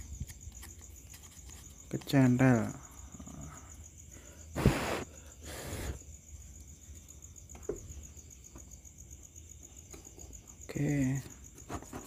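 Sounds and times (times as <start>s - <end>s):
cricket trilling: 0.0s - 12.0s.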